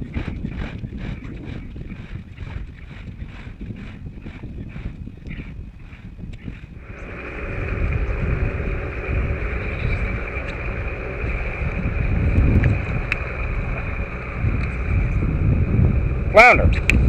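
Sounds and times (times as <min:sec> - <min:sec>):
outboard motor humming: 0:00.0 - 0:17.0
wind buffeting microphone: 0:00.0 - 0:17.0.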